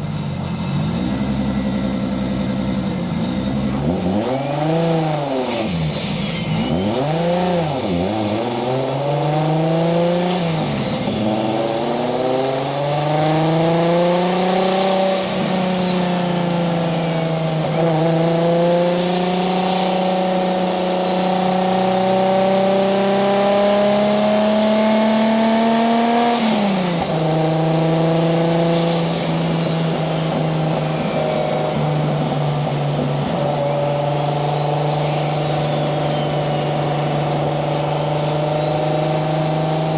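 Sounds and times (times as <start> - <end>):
turbo engine revving: 0.0 - 39.9.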